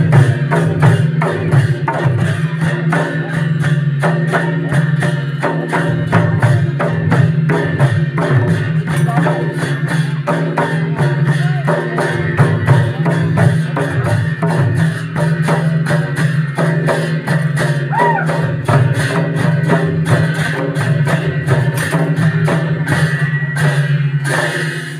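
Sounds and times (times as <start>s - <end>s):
cymbals clashing: 0.0s - 24.9s
hand drums playing fast beat: 0.0s - 24.9s.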